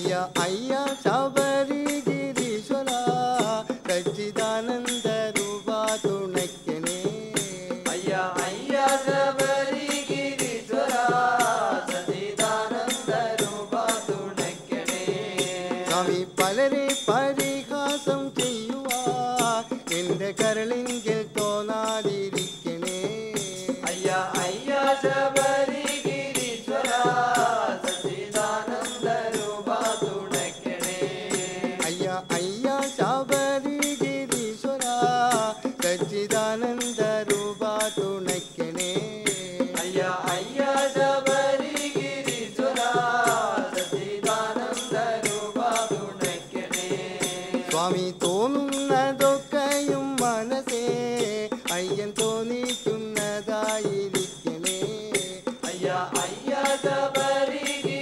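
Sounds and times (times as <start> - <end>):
hand percussion beat: 0.0 - 58.0
voices singing a chant: 0.0 - 58.0.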